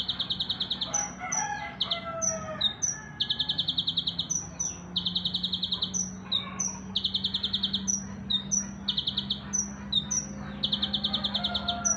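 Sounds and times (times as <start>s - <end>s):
caged songbird singing trills: 0.0s - 11.9s.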